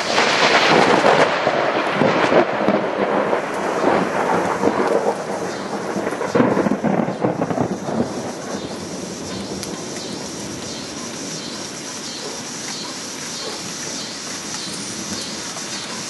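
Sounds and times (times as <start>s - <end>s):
thunder crashing and rolling: 0.0s - 16.0s.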